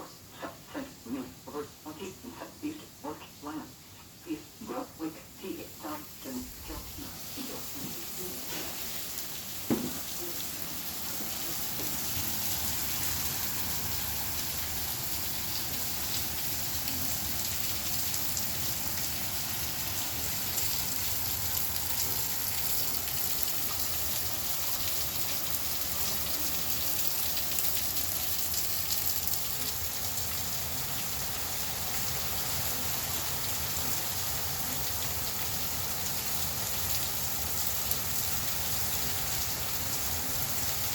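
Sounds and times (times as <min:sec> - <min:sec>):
heavy rain falling: 0:06.3 - 0:40.9.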